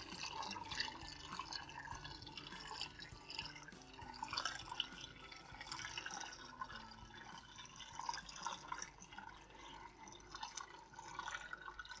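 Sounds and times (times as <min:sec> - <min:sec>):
fountain water trickling: 0:00.0 - 0:12.0.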